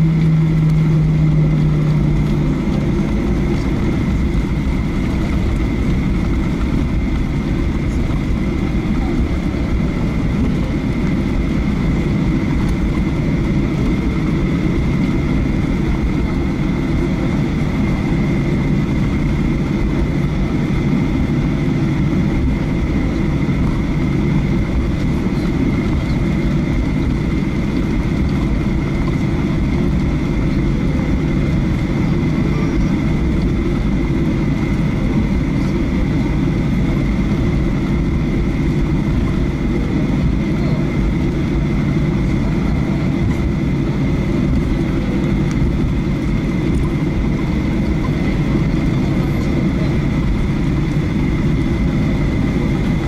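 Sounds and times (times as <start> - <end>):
jet engine rumble and whine: 0.0 - 53.0.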